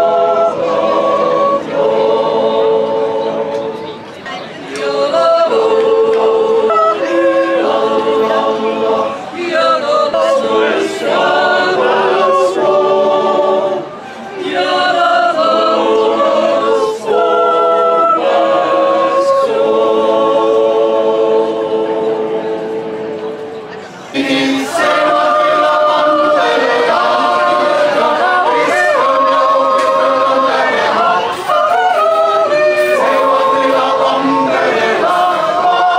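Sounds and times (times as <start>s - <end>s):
yodel choir singing a cappella: 0.0s - 35.9s.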